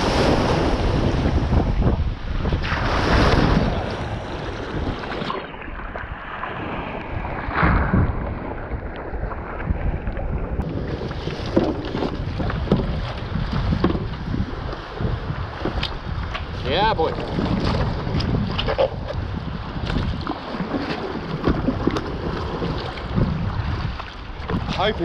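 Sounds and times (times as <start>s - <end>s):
small waves sloshing against hull: 0.0s - 25.0s
water splashing over bow: 0.0s - 25.0s
wind buffeting microphone: 0.0s - 25.0s.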